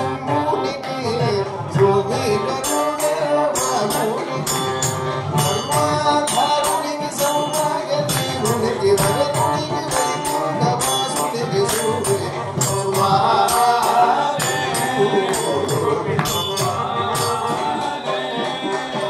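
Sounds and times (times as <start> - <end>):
group of voices singing: 0.0 - 19.0
jingling percussion beat: 0.0 - 19.0.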